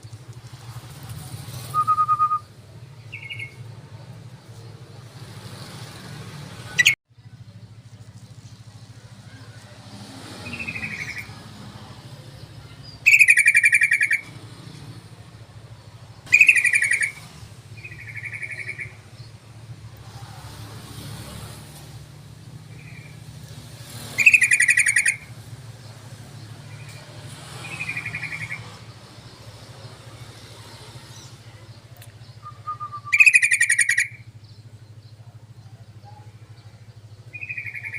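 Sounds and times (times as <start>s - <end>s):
bird chirping calls: 0.0s - 20.4s, 22.4s - 37.9s.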